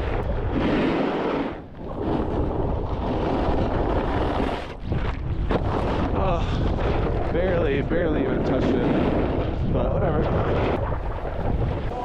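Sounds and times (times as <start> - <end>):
snowboard scraping over snow: 0.0 - 12.0
wind buffeting microphone: 0.0 - 12.0.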